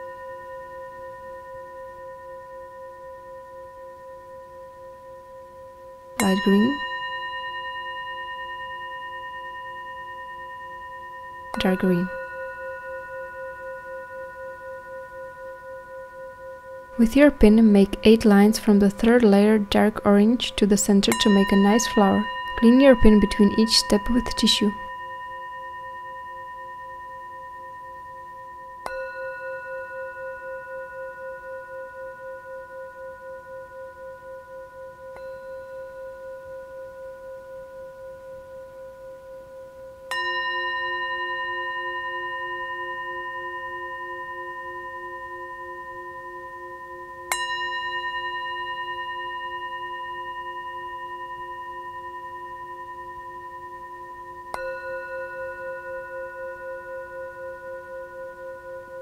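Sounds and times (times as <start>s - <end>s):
slow ringing struck tones: 0.0s - 59.0s.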